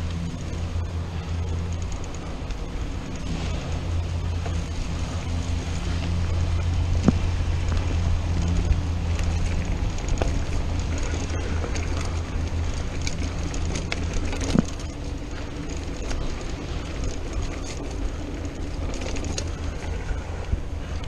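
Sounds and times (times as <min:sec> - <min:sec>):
bike clicks and knocks: 0:00.0 - 0:21.0
tyres rumbling on a dirt trail: 0:00.0 - 0:21.0.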